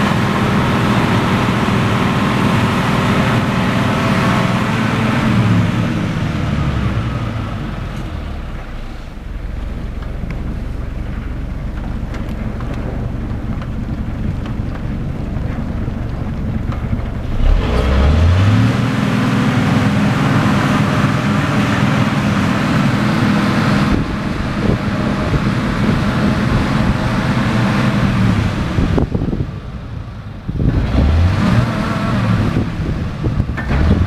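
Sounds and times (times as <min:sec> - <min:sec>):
road and tyre noise: 0:00.0 - 0:34.0
vehicle engine accelerating: 0:00.0 - 0:34.0.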